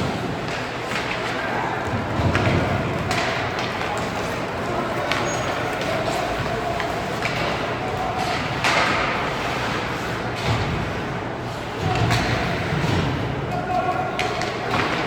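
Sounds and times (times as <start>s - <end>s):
crowd and arena noise: 0.0s - 15.0s
puck and sticks knocking: 0.1s - 9.3s, 11.8s - 15.0s.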